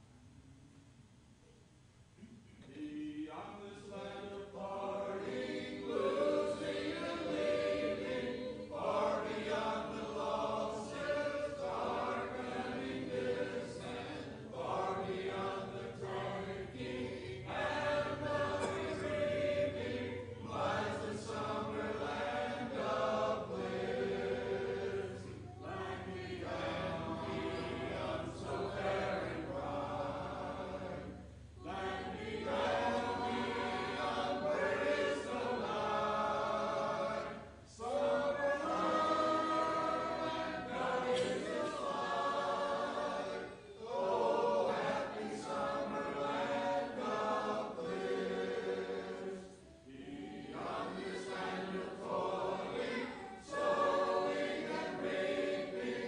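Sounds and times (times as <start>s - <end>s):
congregation singing a hymn: 2.6s - 56.0s.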